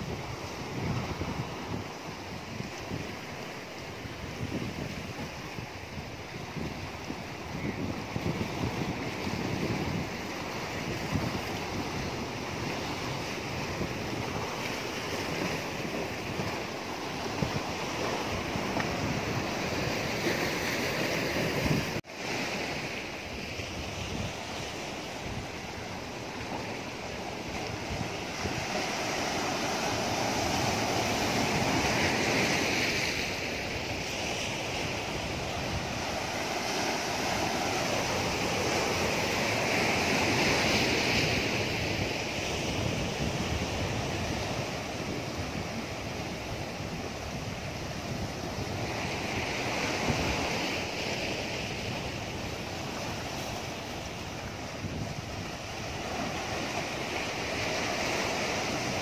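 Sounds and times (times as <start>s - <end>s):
waves breaking over boulders: 0.0s - 59.0s.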